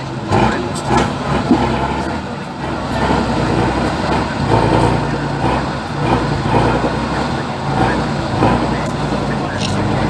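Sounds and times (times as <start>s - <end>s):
diesel truck engine droning: 0.0s - 10.0s.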